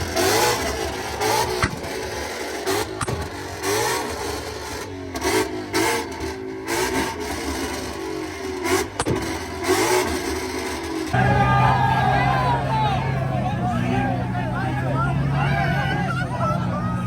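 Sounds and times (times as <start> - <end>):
car engine revving: 0.0 - 17.0
exhaust crack: 0.0 - 17.0.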